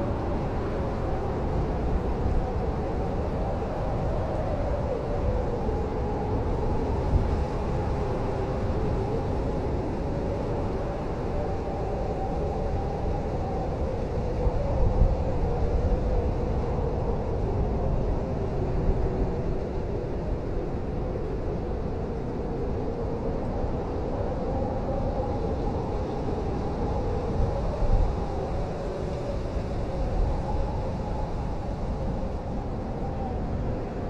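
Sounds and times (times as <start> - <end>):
blizzard wind blowing: 0.0 - 34.0.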